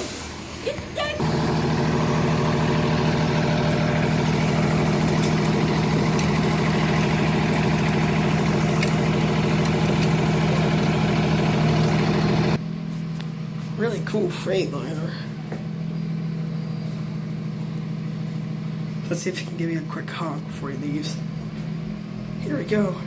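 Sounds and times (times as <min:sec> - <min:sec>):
truck diesel engine running: 0:01.0 - 0:23.0.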